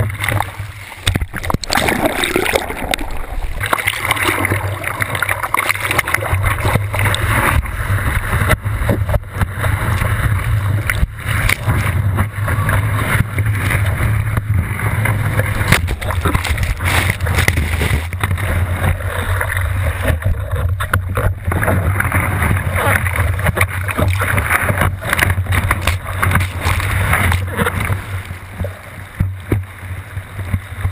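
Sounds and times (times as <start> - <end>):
seawater rushing and splashing: 0.0 - 30.9
wind against camera: 0.0 - 30.9.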